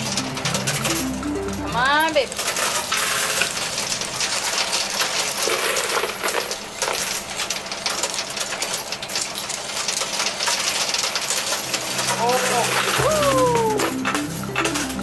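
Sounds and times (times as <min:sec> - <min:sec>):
coins clinking and clattering: 0:00.0 - 0:15.0.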